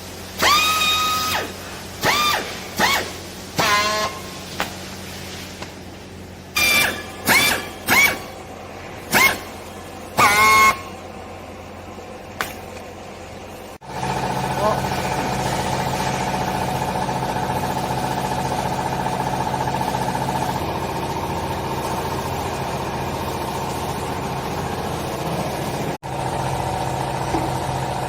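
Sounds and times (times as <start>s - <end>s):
electric motor and pump humming: 0.0s - 28.0s.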